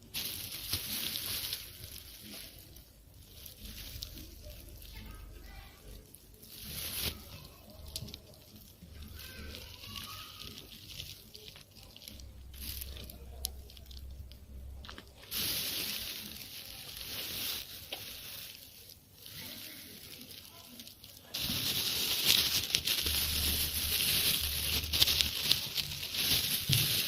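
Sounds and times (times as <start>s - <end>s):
animals crunching dry pet food: 0.0s - 27.0s.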